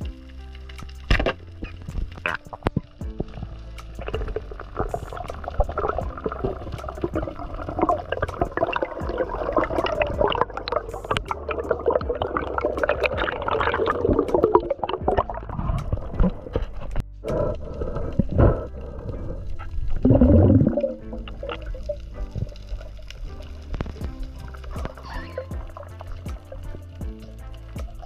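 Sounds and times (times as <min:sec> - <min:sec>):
sharp underwater clicks: 0:00.0 - 0:28.0
underwater water rushing and gurgling: 0:00.0 - 0:28.0.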